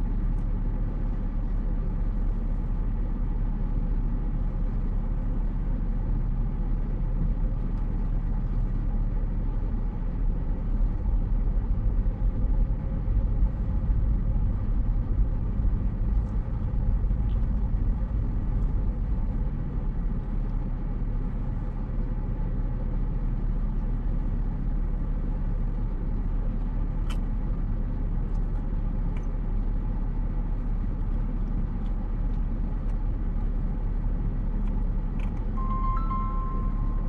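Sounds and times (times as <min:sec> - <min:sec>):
engine and road rumble: 0:00.0 - 0:37.0.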